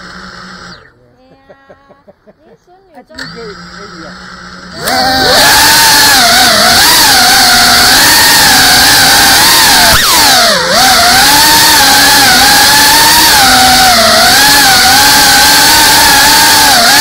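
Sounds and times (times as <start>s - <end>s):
drone motors whining: 0.0s - 2.2s, 2.9s - 17.0s.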